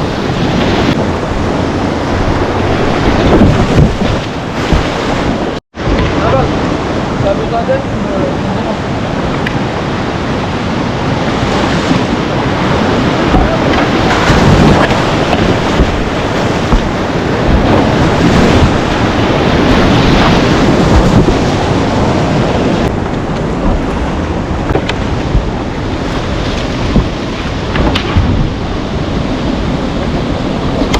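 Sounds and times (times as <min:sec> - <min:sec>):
water splashing: 0:00.0 - 0:06.6, 0:09.6 - 0:30.9
whitewater rapids rushing: 0:00.0 - 0:30.9
wind buffeting microphone: 0:00.0 - 0:30.9.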